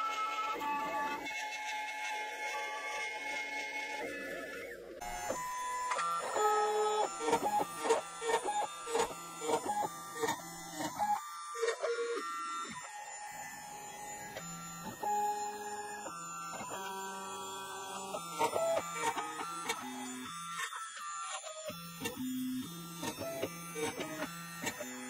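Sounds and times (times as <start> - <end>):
stepper motors whining: 2.1 - 25.0.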